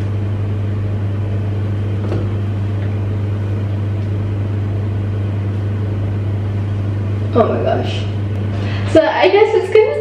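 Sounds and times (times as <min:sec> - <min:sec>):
motor humming: 0:00.0 - 0:10.0.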